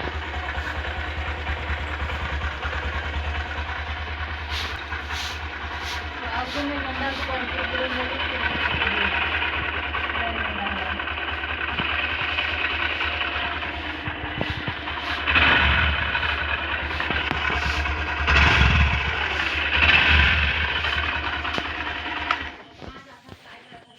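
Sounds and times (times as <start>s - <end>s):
motorcycle engine running and revving: 0.0s - 23.9s.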